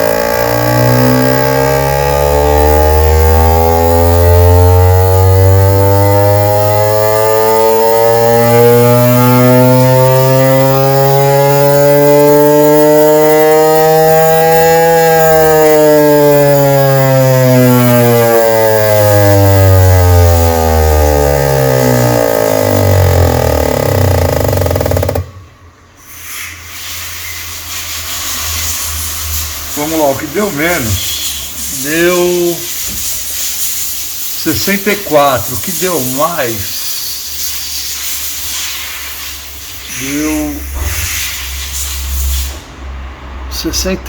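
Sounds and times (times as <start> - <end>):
fuel injector test bench buzzing: 0.0 - 43.8.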